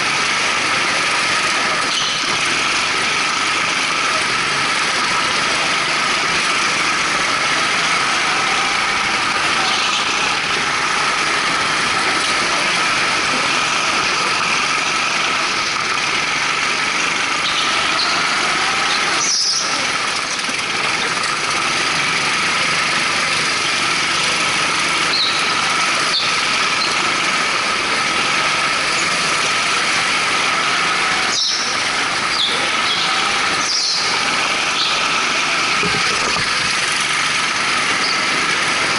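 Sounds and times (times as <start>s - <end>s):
go-kart engines running hard: 0.0s - 38.9s
tyres squealing: 0.0s - 38.9s.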